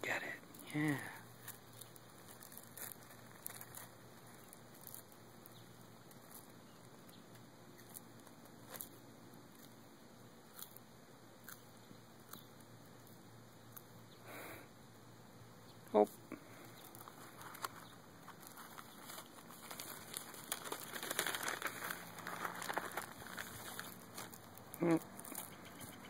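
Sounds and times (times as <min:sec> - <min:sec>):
tortoise crunching lettuce: 0:00.4 - 0:14.1, 0:16.0 - 0:26.0.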